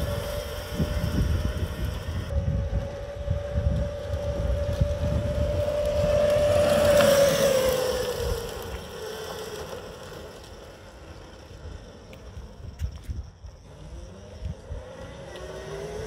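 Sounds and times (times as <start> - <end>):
wind rumble on microphone: 0.0 - 9.2, 11.4 - 16.0
electric go-kart whine passing: 0.0 - 16.0.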